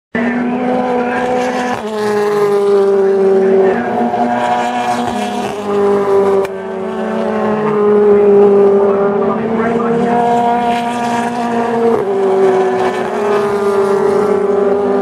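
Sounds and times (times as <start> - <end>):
race car engines running hard: 0.2 - 15.0.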